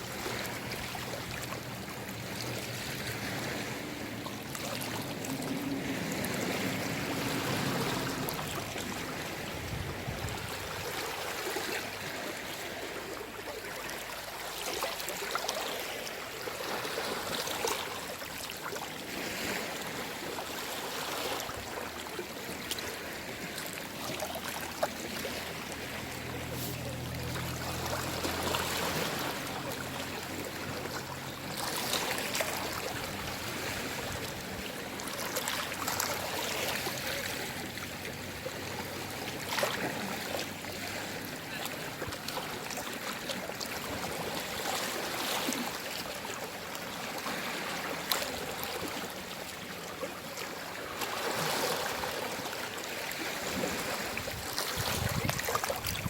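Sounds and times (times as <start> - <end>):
gentle sea waves washing: 0.0 - 56.0.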